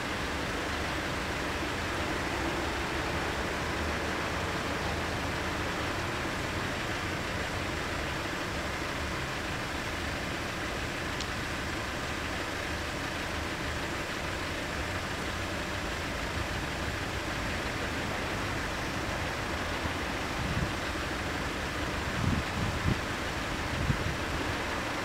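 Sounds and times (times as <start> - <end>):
car engine idling: 0.0 - 25.0
traffic hiss: 0.0 - 25.0.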